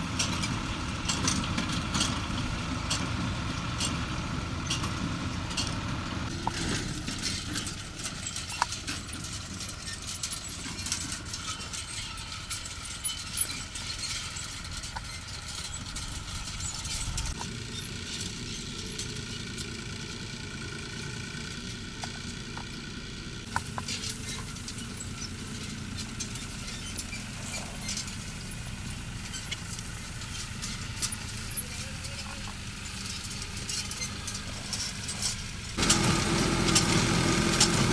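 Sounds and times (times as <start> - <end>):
hay machinery clicks and rattles: 0.0 - 37.9
tractor engine rumble: 0.0 - 37.9.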